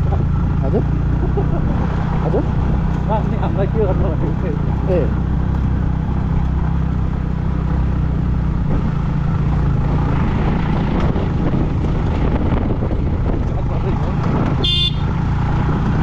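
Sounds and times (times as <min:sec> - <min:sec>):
wind rush on microphone: 0:00.0 - 0:07.4, 0:08.3 - 0:16.0
motorcycle engine running: 0:00.0 - 0:16.0.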